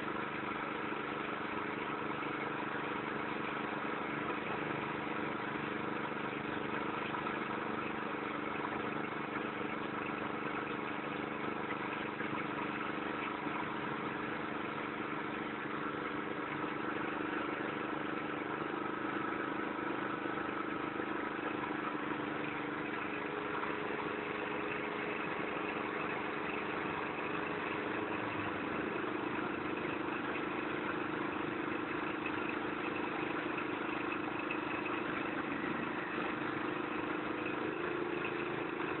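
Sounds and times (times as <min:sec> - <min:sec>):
threshing machine engine hum: 0:00.0 - 0:39.0.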